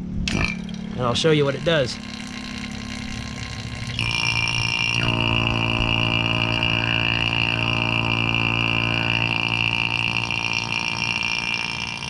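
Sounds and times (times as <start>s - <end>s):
vacuum pump humming and whining: 0.0s - 12.0s.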